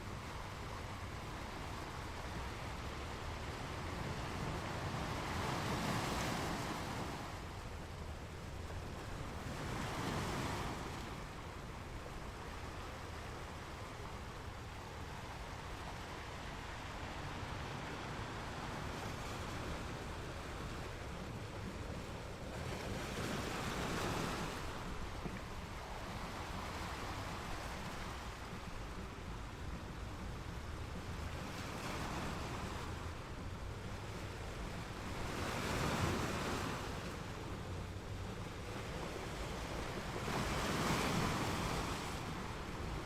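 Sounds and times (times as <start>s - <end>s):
waves breaking: 0.0s - 43.0s.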